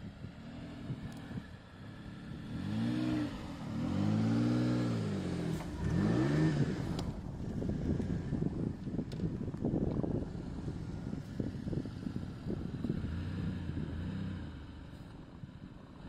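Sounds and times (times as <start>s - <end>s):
car engine revving: 0.0s - 8.8s, 9.7s - 15.2s.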